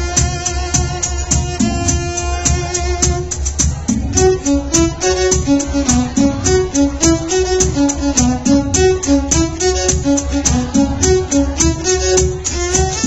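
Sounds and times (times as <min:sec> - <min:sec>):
dance music with heavy bass: 0:00.0 - 0:13.0
string melody: 0:00.0 - 0:13.0.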